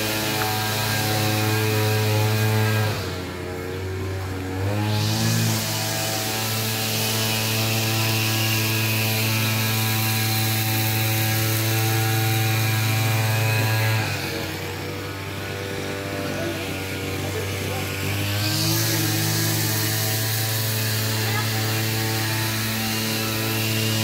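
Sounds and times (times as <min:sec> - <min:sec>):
motor humming: 0:00.0 - 0:24.0.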